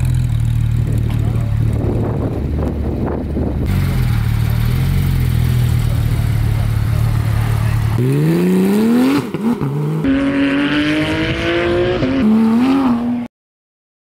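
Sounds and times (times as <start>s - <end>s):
sports car engine revving: 0.0s - 13.3s.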